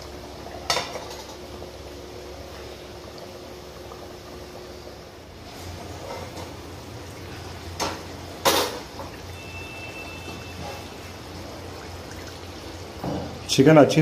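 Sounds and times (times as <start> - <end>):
curry bubbling: 0.0 - 14.0.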